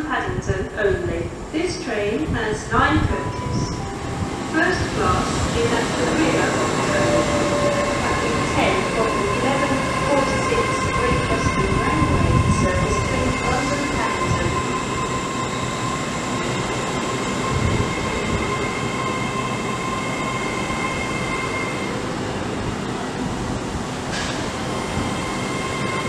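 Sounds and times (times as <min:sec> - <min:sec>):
train wheels rumbling: 0:02.2 - 0:26.0
train whine: 0:02.3 - 0:26.0.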